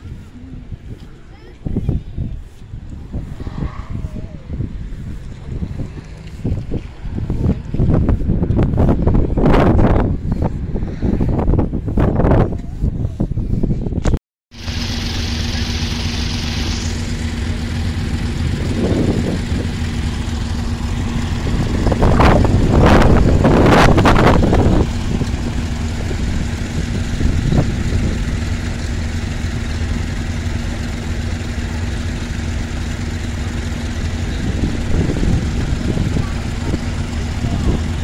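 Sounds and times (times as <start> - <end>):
tractor engines idling: 0.0 - 13.4, 14.5 - 38.0.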